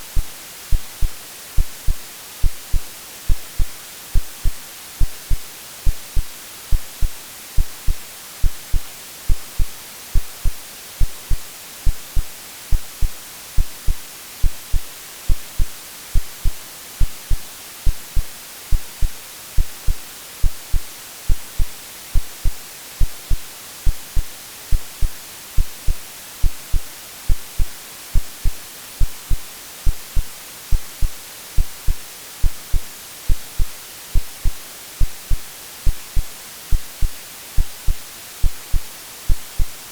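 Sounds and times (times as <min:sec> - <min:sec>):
heartbeat thumps: 0:00.0 - 0:39.8
white noise hiss: 0:00.0 - 0:39.9.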